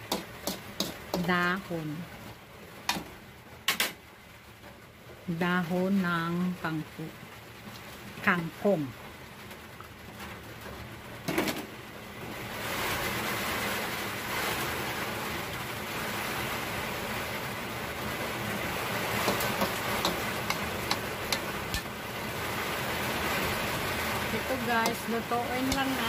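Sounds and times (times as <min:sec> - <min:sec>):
leaves sizzling in hot oil: 0:00.0 - 0:26.0.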